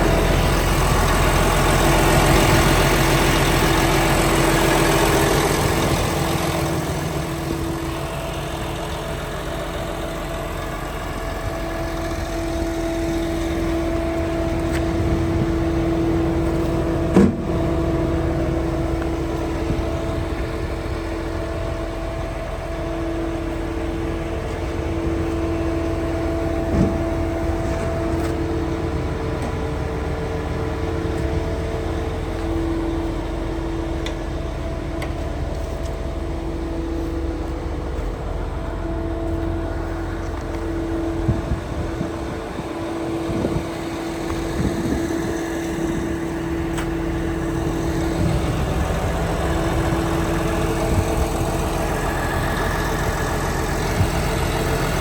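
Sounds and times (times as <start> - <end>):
bulldozer diesel engine running: 0.0 - 55.0
steady whine: 0.0 - 55.0.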